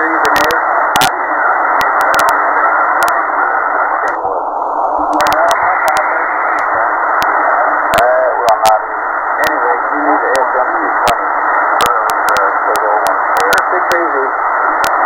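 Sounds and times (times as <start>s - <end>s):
garbled radio voice: 0.0s - 15.0s
radio crackles: 0.0s - 15.0s
radio static hiss: 0.0s - 15.0s.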